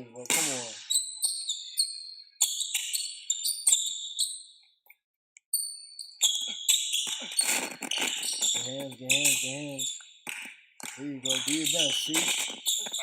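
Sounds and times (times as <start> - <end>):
sneakers squeaking on hardwood: 0.3 - 4.6, 5.5 - 13.0.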